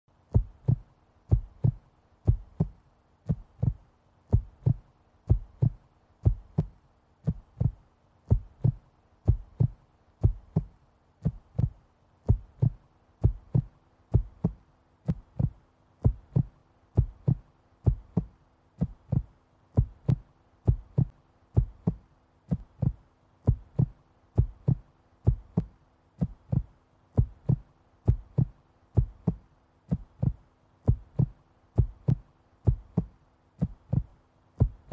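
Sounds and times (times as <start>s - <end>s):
faint low hum: 0.1s - 34.9s
heartbeat thumping: 0.2s - 34.9s.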